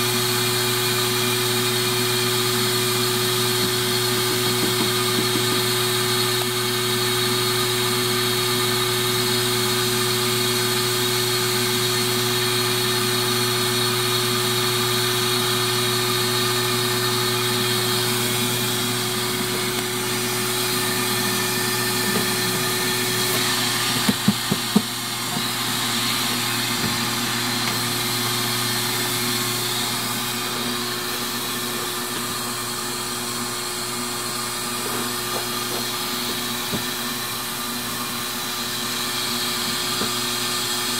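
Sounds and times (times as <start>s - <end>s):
vacuum motor humming: 0.0s - 40.9s.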